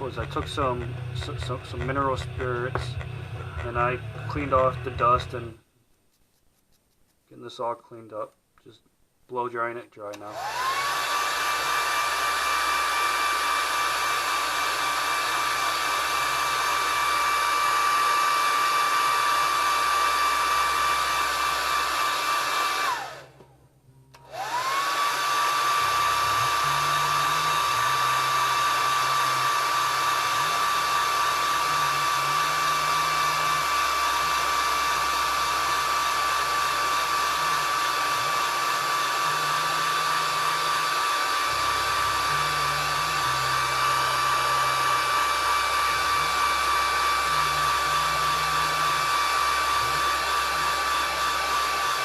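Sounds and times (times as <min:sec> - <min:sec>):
hair dryer blowing with whine: 0:00.0 - 0:05.3, 0:10.2 - 0:23.4, 0:24.2 - 0:52.0.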